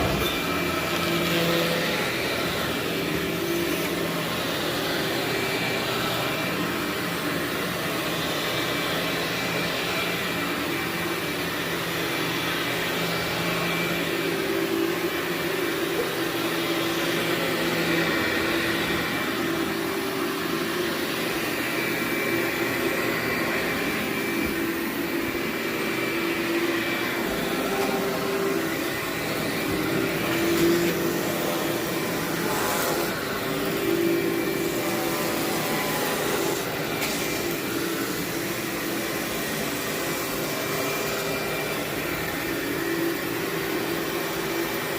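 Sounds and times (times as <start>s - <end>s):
vacuum cleaner running on carpet: 0.0s - 44.9s.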